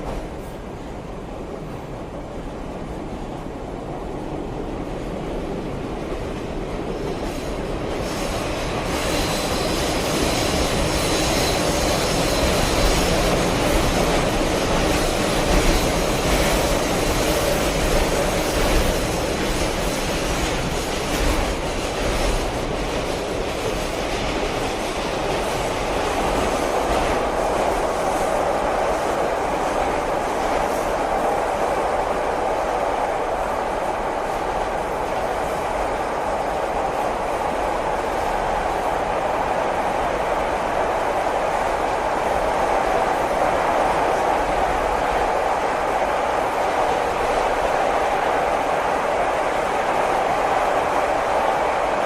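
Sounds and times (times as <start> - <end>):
train rumbling on track: 0.0 - 52.0.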